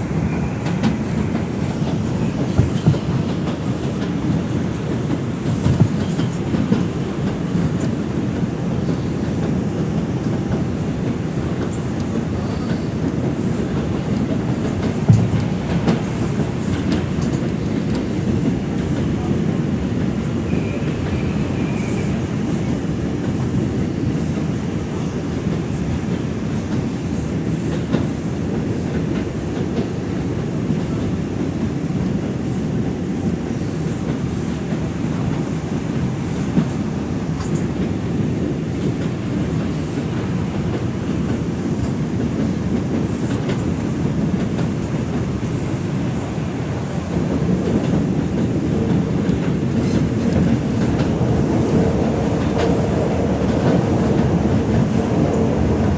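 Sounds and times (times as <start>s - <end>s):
clickety-clack over rail joints: 0.0s - 55.9s
subway wheels rumbling on rail: 0.0s - 55.9s.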